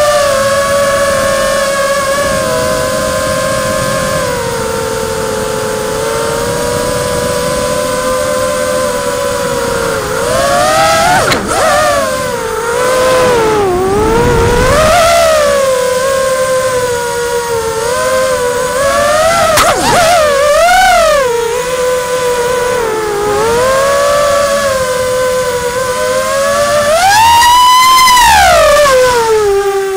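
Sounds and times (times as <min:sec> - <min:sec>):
drone propellers whining: 0:00.0 - 0:29.9.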